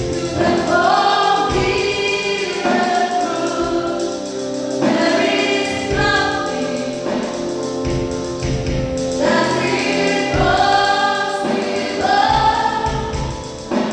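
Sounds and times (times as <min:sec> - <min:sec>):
choir singing gospel: 0:00.0 - 0:13.9
instrumental accompaniment: 0:00.0 - 0:13.9.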